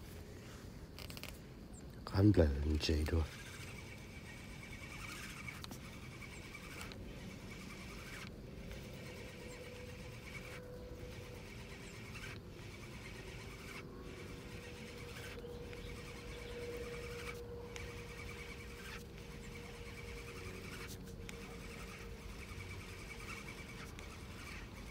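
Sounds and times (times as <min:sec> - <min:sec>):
low even hum: 0:00.0 - 0:24.9.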